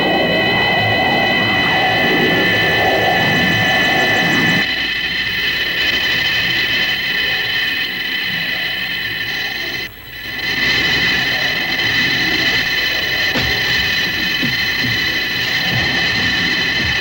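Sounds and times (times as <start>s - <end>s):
high held electronic tones: 0.0s - 17.0s
rough noisy low layer: 0.0s - 17.0s.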